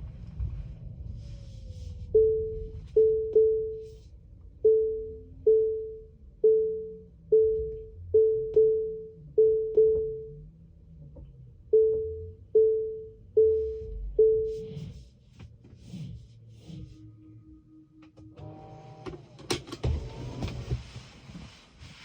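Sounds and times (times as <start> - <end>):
low road rumble: 0.0 - 22.0.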